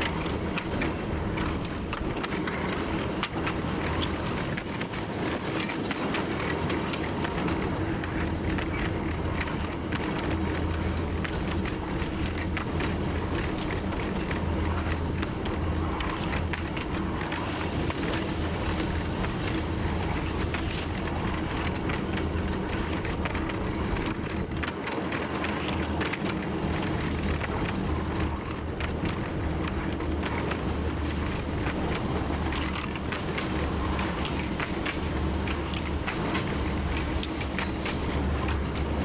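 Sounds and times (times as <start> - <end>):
diesel engine drone: 0.0 - 39.0
wheels clattering on track: 0.0 - 39.0.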